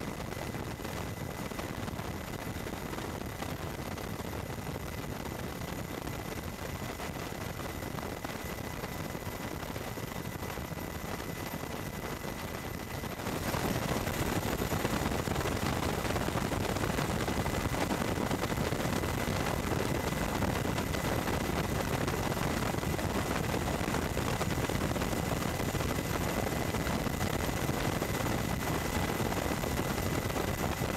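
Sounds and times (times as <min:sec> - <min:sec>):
helicopter engine noise: 0:00.0 - 0:30.9
helicopter rotor flutter: 0:00.0 - 0:30.9
thin steady whine: 0:00.0 - 0:30.9.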